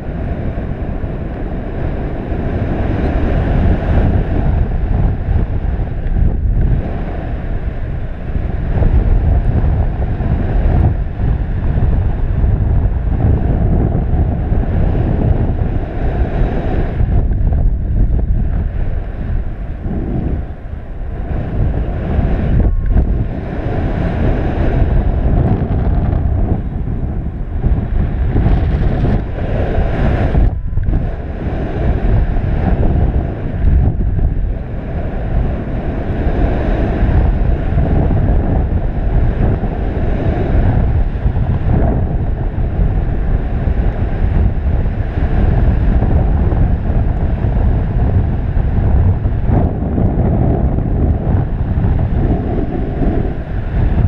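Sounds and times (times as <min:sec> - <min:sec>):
wind roaring on microphone: 0:00.0 - 0:54.0.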